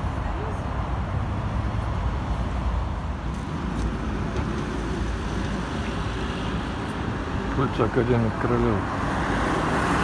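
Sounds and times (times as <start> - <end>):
cars passing: 0.0 - 10.0
low rumble of engines and tyres: 0.0 - 10.0.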